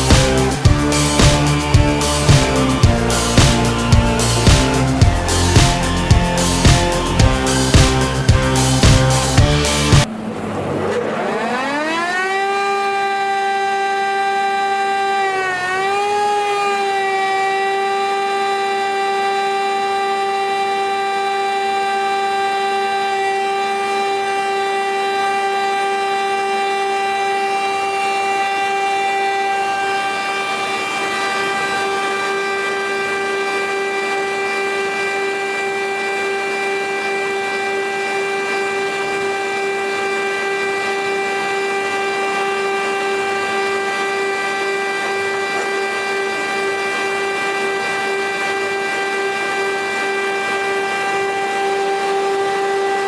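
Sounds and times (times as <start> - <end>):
woodworking machines whining: 0.0 - 10.2, 10.8 - 53.0.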